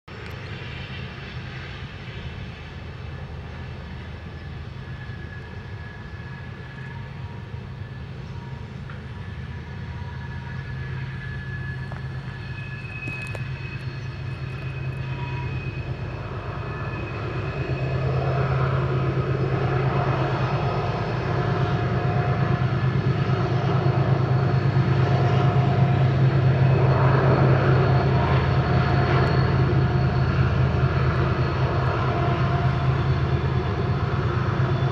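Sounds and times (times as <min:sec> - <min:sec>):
diesel locomotive engines droning: 0:00.1 - 0:34.9.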